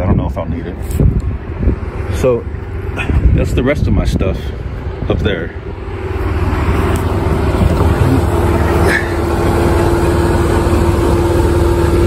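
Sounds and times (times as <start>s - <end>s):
vehicle engine idling: 1.2s - 12.0s.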